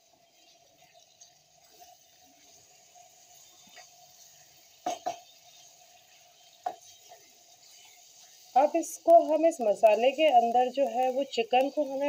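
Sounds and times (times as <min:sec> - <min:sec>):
spatula stirring thick gravy: 0:00.1 - 0:12.0.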